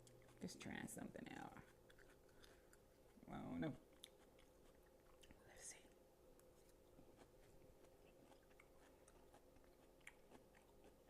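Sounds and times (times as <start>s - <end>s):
person chewing: 0.0s - 0.5s, 1.3s - 5.5s, 6.4s - 11.0s
low steady hum: 0.0s - 11.0s.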